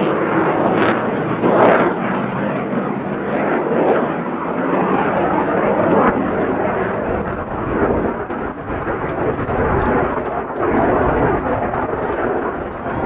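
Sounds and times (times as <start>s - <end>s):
jet engine rushing: 0.0s - 13.0s.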